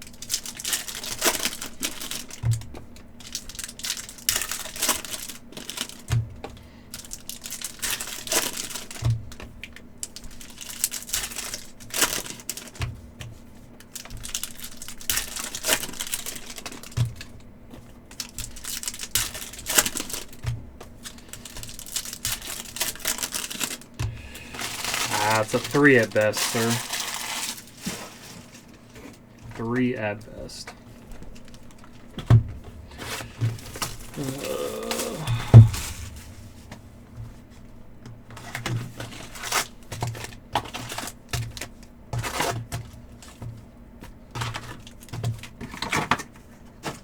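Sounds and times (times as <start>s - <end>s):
cards and wrappers rustling: 0.0s - 47.0s.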